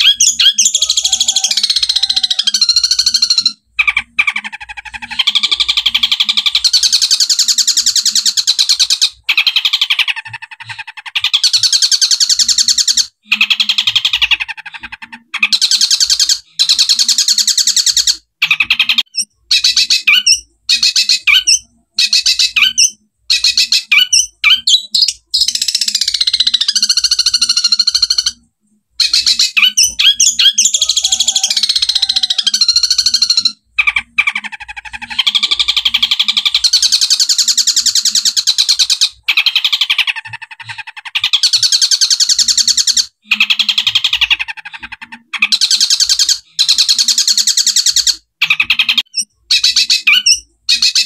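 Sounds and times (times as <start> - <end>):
bird singing harsh trills: 0.0 - 51.0
mimicked sparrow chirps: 0.0 - 51.0.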